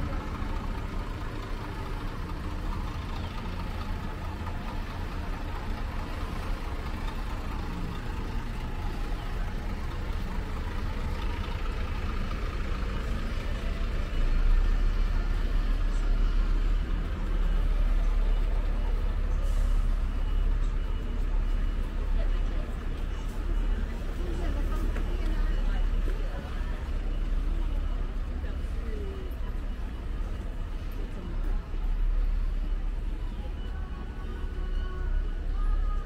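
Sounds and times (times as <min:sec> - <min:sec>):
people's voices: 0:00.0 - 0:36.0
vehicle engine rumble: 0:00.0 - 0:36.0.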